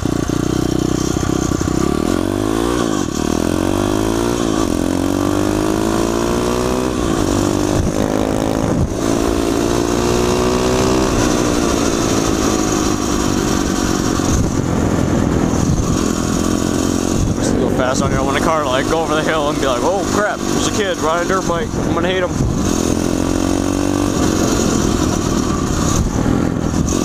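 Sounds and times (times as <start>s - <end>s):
motorbike engine accelerating: 0.0s - 27.0s.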